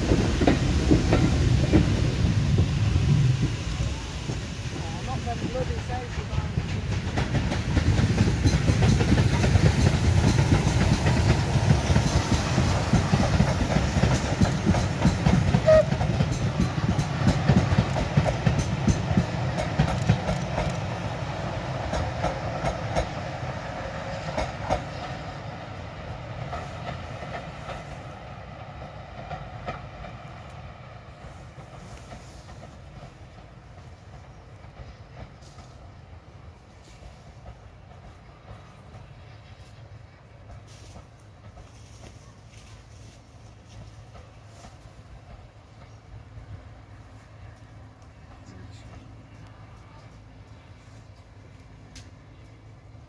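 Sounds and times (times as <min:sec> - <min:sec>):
wheels clicking over rail joints: 0:00.0 - 0:02.6, 0:03.4 - 0:23.4, 0:31.2 - 0:53.0
steam train passing: 0:00.0 - 0:53.0.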